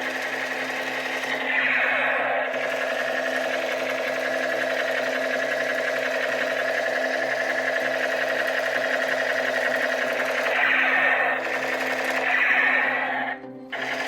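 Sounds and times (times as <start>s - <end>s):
gears rattling: 0.0s - 14.0s
toy motor whirring: 0.0s - 14.0s.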